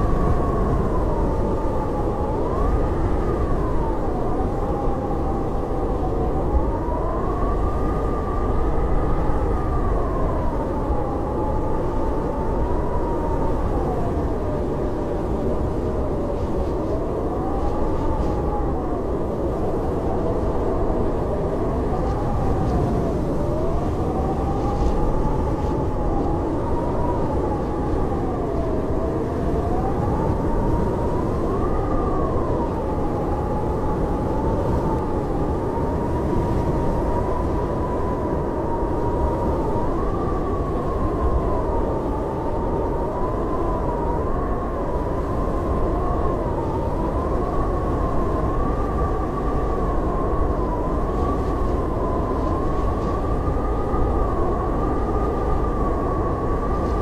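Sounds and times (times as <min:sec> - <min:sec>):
blizzard wind howling: 0:00.0 - 0:57.0.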